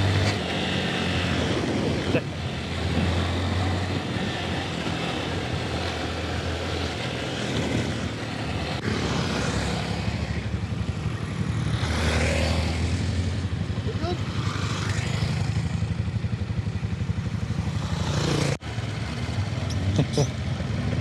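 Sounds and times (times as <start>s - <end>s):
motorcycle engine cruising: 0.0s - 21.0s
wind and road noise: 0.0s - 21.0s.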